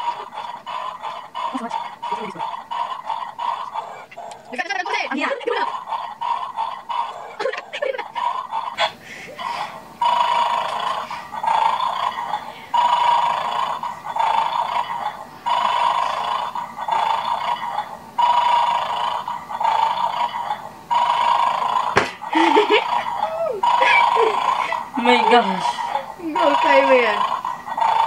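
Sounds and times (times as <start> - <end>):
toy dog snoring through speaker: 0.0 - 4.5, 5.1 - 28.0.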